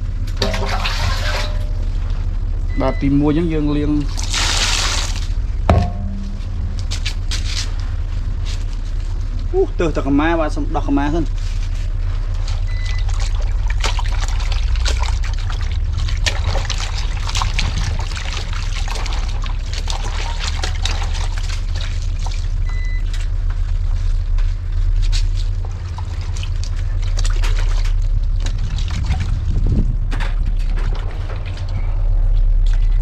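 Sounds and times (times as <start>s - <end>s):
low rumble: 0.0s - 33.0s
water trickling and splashing: 0.4s - 2.2s, 3.8s - 9.5s, 11.2s - 31.7s.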